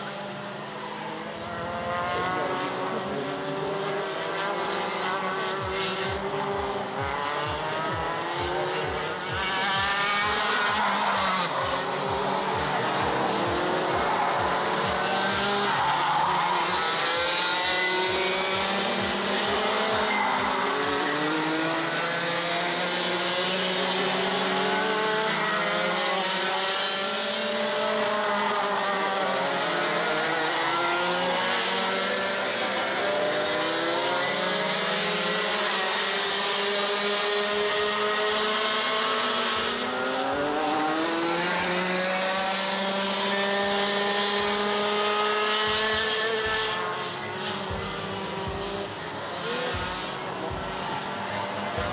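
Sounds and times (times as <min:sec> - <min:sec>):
kart engines revving high: 0:00.0 - 0:51.9.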